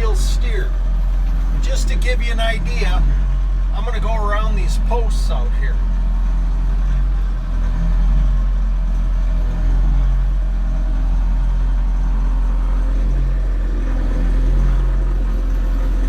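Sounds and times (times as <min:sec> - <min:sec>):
diesel engine low drone: 0:00.0 - 0:16.0.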